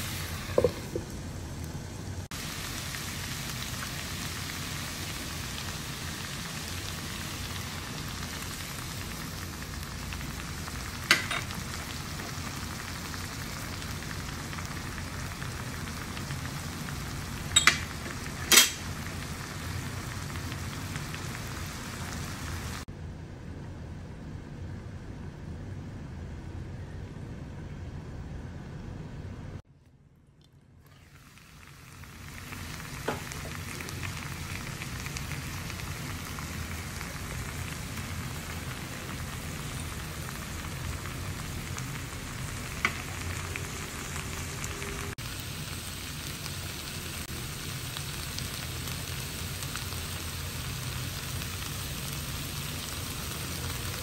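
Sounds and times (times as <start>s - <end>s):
food sizzling in a pan: 0.0s - 1.3s, 2.2s - 22.9s, 30.9s - 54.0s.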